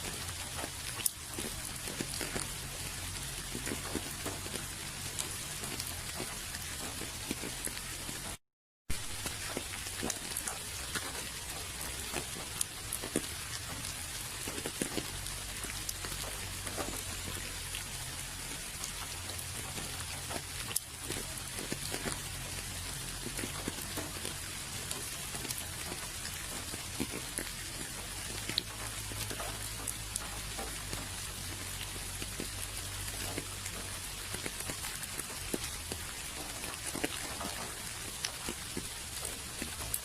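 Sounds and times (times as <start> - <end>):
raindrops clicking: 0.0 - 40.0
steady rainfall: 0.0 - 40.0.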